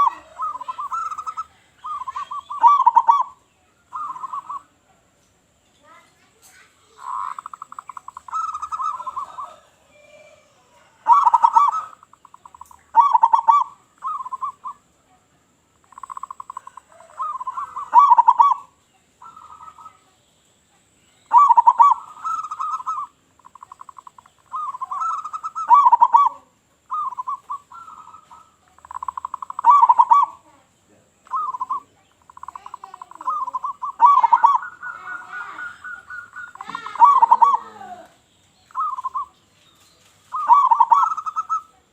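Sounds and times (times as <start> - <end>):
doves cooing: 0.0 - 4.8, 6.9 - 14.9, 15.8 - 20.0, 21.2 - 39.4, 40.1 - 41.9.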